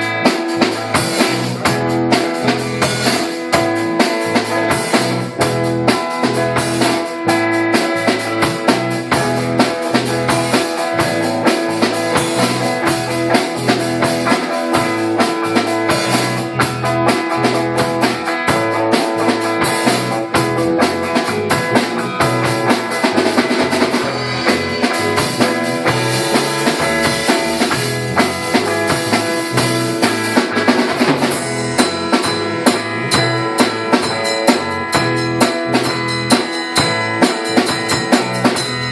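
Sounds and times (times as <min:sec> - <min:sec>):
band music: 0:00.0 - 0:38.9
drums keeping a beat: 0:00.0 - 0:38.9
guitar playing: 0:00.0 - 0:38.9.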